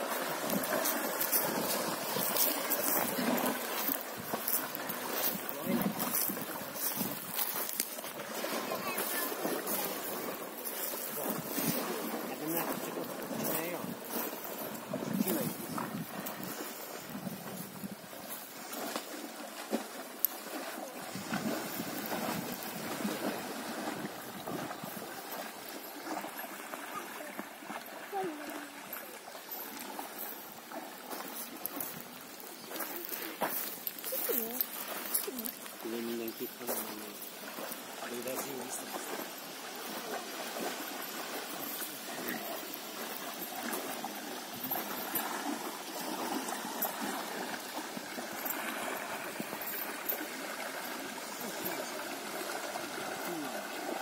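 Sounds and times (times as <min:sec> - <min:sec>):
river water splashing and lapping: 0:00.0 - 0:54.0.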